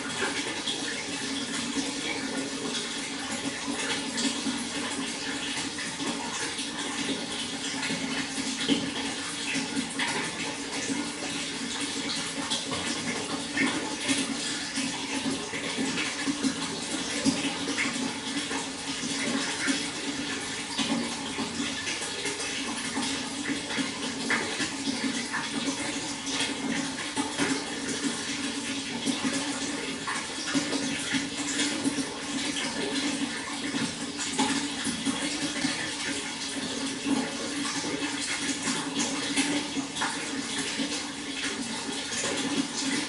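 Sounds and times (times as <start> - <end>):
water flowing with splashes: 0.0 - 43.0.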